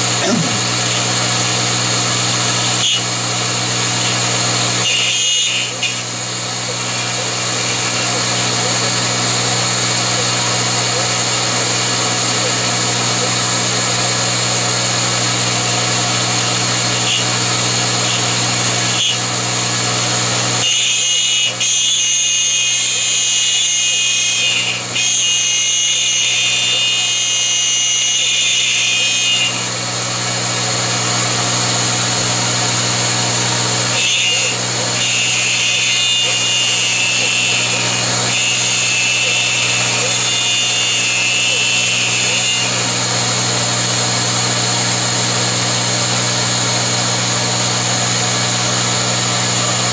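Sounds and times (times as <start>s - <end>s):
milling machine cutting whine: 0.0s - 49.9s.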